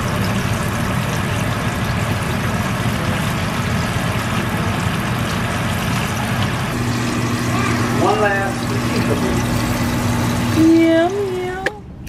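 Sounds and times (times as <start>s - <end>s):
fish sizzling in hot oil: 0.0s - 11.2s.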